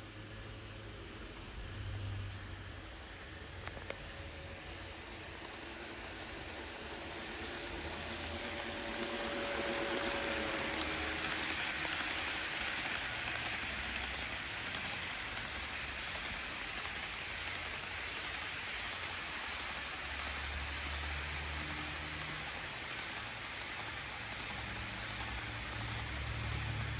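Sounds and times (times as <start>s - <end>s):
model train wheels on rails: 0.0s - 26.9s
model train cars clattering: 3.7s - 26.9s.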